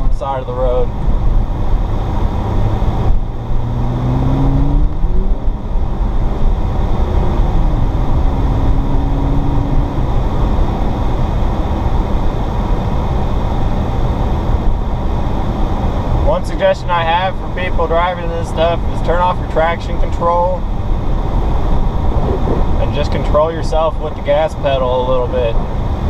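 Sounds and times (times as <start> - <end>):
tyre and road noise: 0.0 - 26.0
car engine accelerating: 0.9 - 16.4, 20.4 - 26.0.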